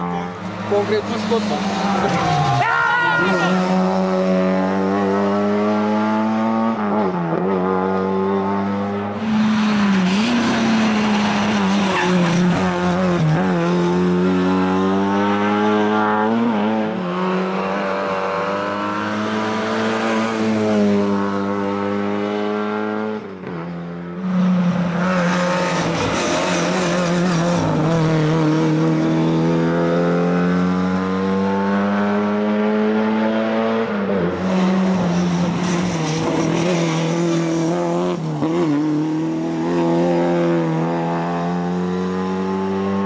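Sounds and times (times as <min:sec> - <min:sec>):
rally car engine at high revs: 0:00.0 - 0:43.0.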